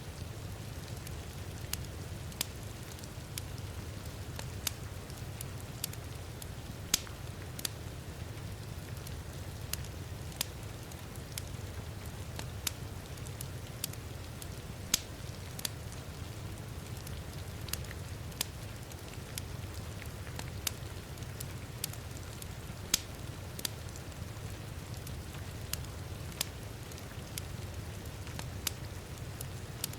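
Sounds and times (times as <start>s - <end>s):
steady rain: 0.0s - 29.9s
wood fire crackling: 0.0s - 29.9s.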